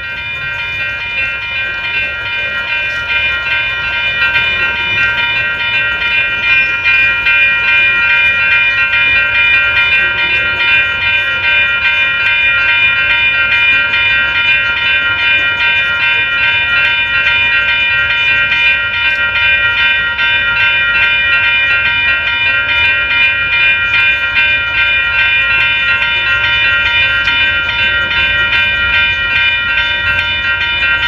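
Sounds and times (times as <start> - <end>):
crossing bell ringing: 0.0 - 31.0
freight train rumbling past: 0.0 - 31.0.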